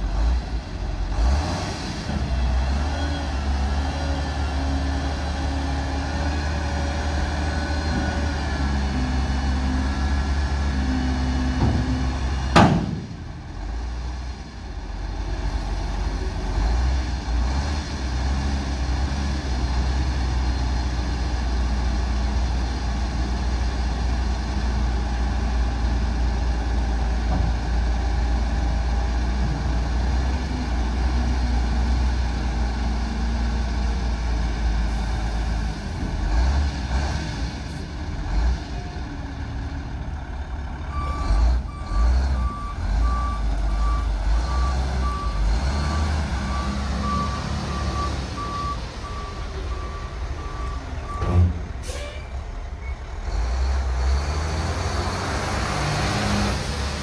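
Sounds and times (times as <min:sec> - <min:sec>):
diesel truck engine rumbling: 0:00.0 - 0:57.0.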